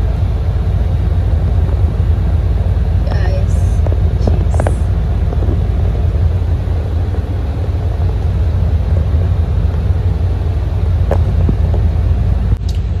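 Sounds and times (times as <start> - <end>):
heavy rain on vehicle roof: 0.0 - 12.6
steady low rumble: 0.0 - 13.0.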